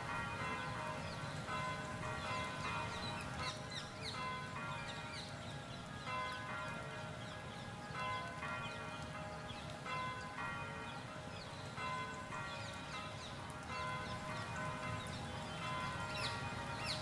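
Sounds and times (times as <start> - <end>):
bells chiming: 0.0 - 5.2, 8.0 - 17.0.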